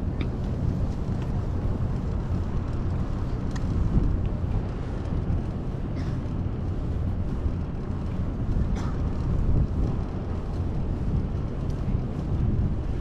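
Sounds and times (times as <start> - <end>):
bicycle riding noise: 0.0 - 13.0
street traffic rumble: 0.0 - 13.0.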